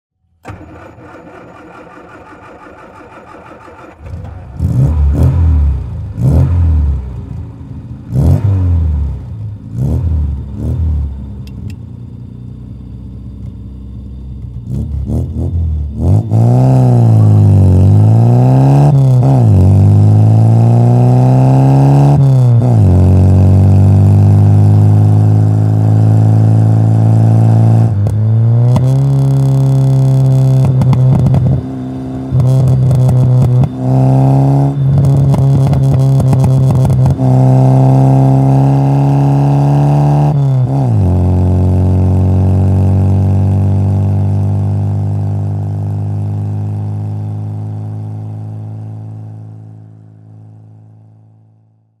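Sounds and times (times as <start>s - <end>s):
car engine revving: 0.4s - 12.1s, 13.8s - 49.6s.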